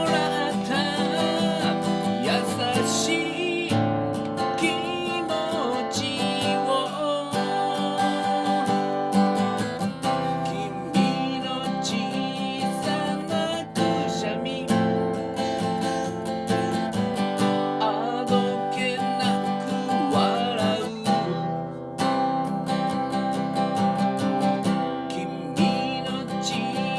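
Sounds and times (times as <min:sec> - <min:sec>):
acoustic guitar strumming: 0:00.0 - 0:26.9.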